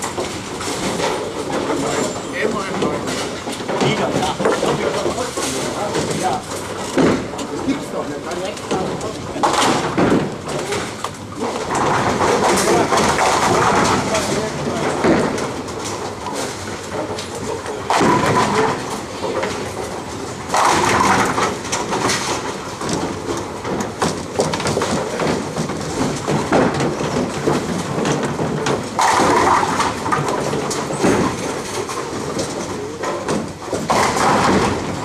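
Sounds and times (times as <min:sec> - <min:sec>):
bowling balls rolling: 0:00.0 - 0:35.0.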